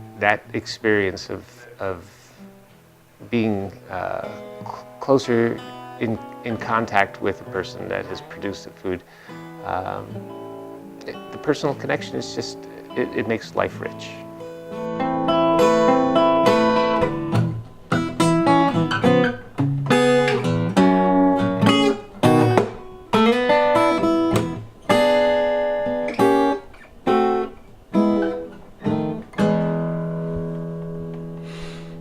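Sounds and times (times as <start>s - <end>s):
acoustic guitar blues: 0.0s - 32.0s.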